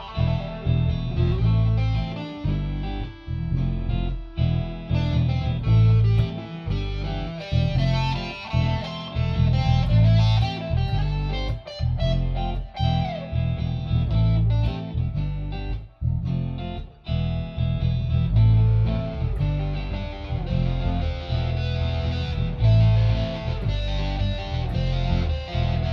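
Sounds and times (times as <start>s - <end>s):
band with heavy bass line: 0.0s - 25.9s
electric guitar shuffle: 0.0s - 25.9s.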